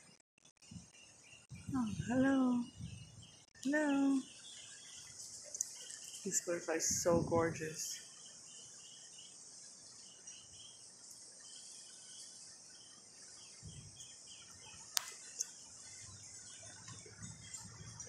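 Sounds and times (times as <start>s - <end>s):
small birds chirping: 0.6s - 18.0s
high insect drone: 0.9s - 18.0s.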